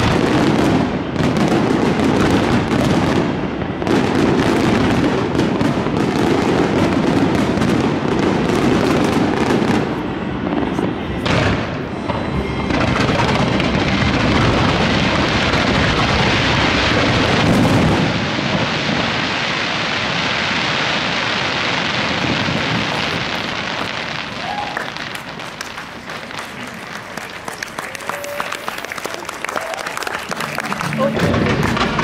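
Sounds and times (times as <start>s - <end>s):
fireworks bursts and crackle: 0.0s - 32.0s.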